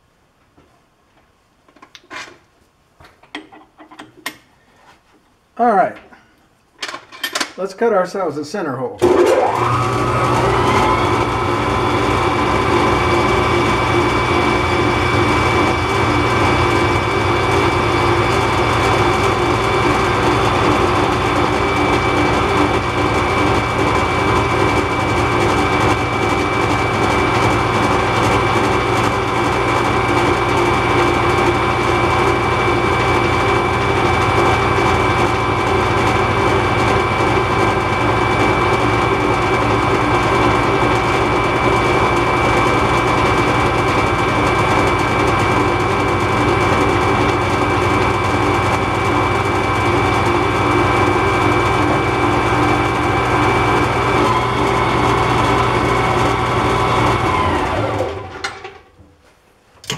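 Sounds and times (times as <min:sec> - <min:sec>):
metal lathe humming with whine: 0:09.0 - 0:58.4.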